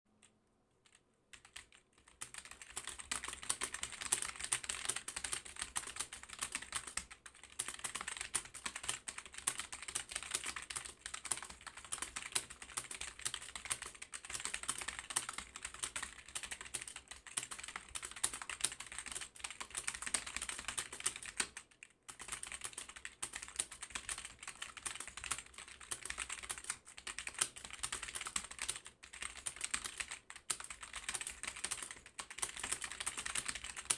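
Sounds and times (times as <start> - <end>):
keyboard typing: 0.2 - 33.9.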